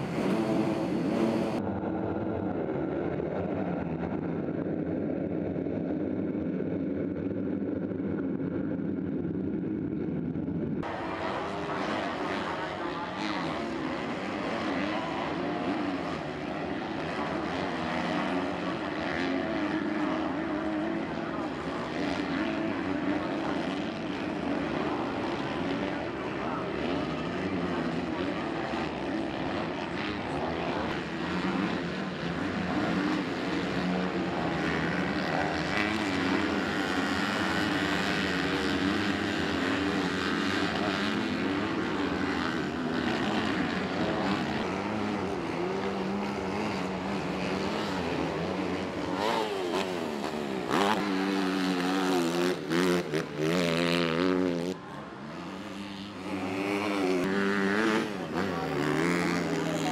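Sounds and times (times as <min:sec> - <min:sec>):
motocross bike engines revving: 0:00.0 - 0:01.6, 0:10.8 - 0:59.9.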